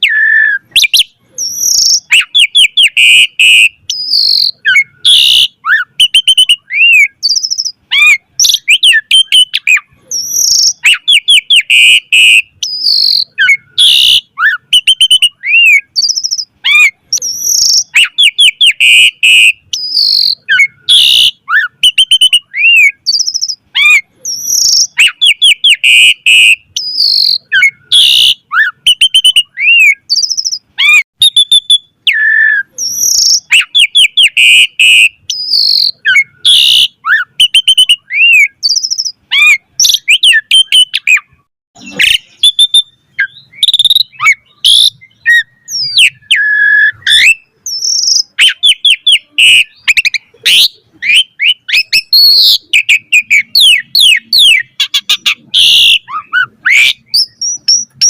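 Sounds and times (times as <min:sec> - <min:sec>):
starling singing: 0:00.0 - 0:58.0.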